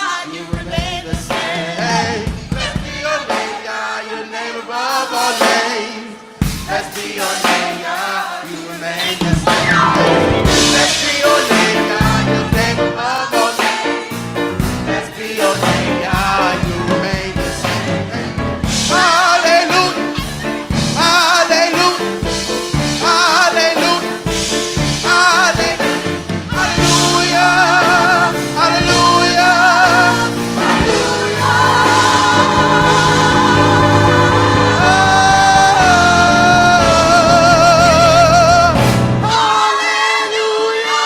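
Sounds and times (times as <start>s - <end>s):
gospel choir singing: 0.0s - 41.0s
instrumental backing: 5.0s - 39.7s.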